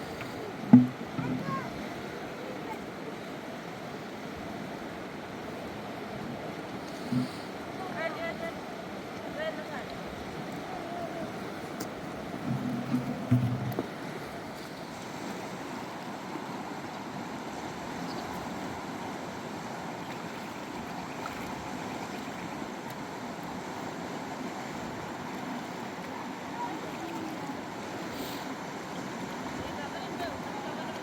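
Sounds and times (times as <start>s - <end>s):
river rushing over stones: 0.0s - 31.0s.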